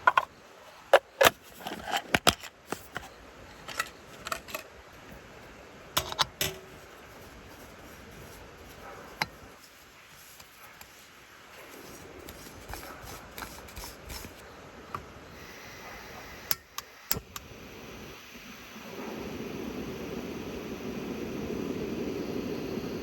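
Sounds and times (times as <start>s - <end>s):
faint steady background noise: 0.0s - 23.0s.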